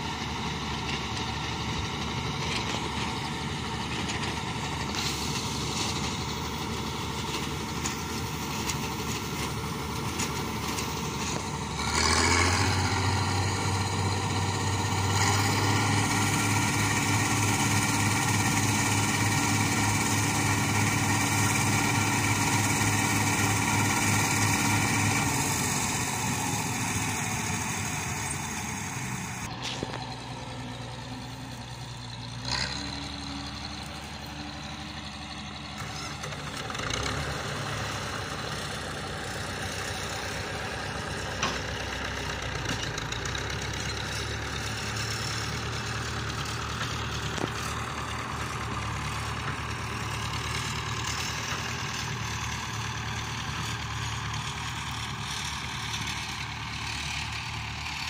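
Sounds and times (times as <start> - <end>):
combine harvester engine and threshing: 0.0 - 58.0
tractor engine drone: 0.0 - 58.0.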